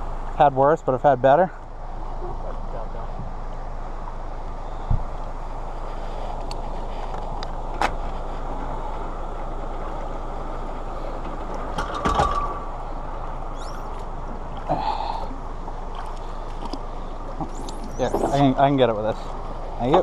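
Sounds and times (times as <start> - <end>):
steady noisy background: 0.0 - 20.0.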